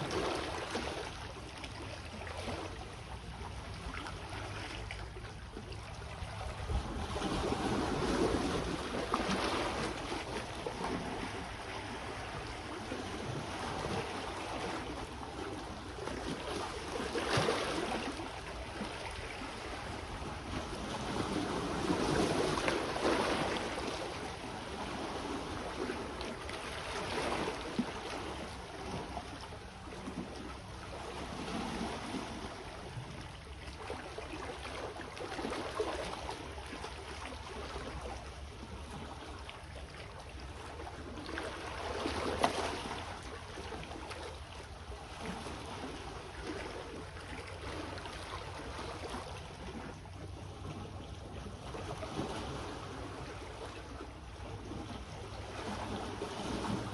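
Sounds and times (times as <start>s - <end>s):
small waves washing ashore: 0.0s - 56.9s.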